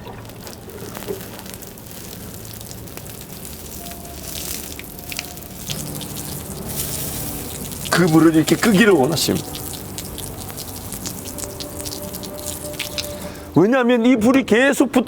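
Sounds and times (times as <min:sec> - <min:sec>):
fire hissing and sizzling: 0:00.0 - 0:13.6
fire crackling: 0:00.0 - 0:14.1.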